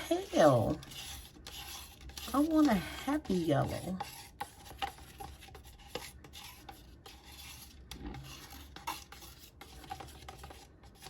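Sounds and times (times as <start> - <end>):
stirrer scraping a cup: 0.0 - 11.0.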